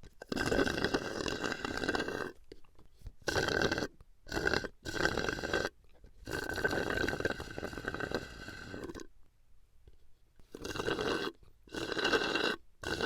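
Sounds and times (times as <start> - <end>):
slurping through a straw: 0.0 - 2.6, 3.2 - 9.1, 10.4 - 13.0.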